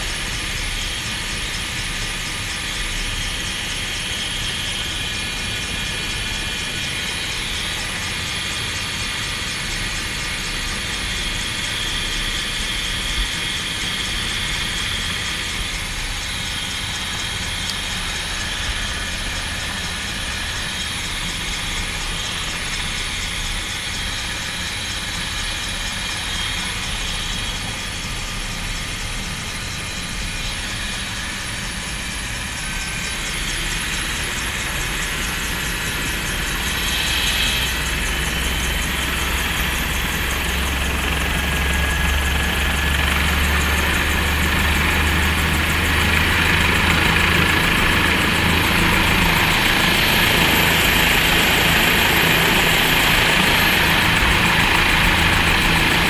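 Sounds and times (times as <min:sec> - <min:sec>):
helicopter in flight: 0:00.0 - 0:56.0.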